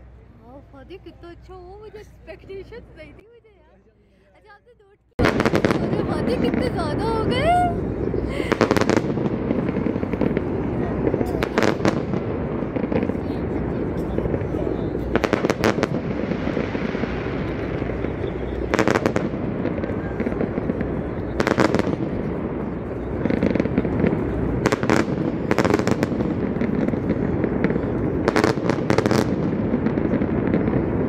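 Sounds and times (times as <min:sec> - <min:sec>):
crowd noise: 0:00.0 - 0:31.0
fireworks bursting and crackling: 0:05.1 - 0:31.0.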